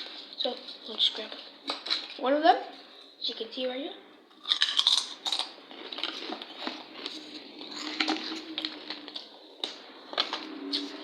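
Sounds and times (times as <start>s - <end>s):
snack packet crackling: 0.0s - 2.2s, 4.3s - 11.0s.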